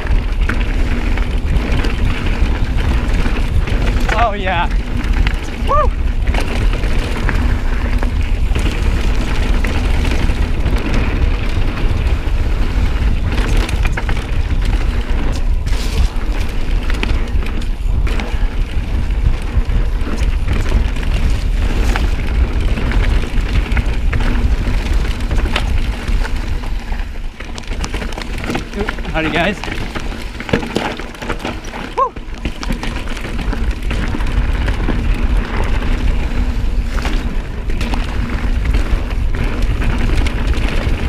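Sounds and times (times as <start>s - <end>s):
bike clicks and knocks: 0.0s - 41.0s
wind rumble on microphone: 0.0s - 41.0s.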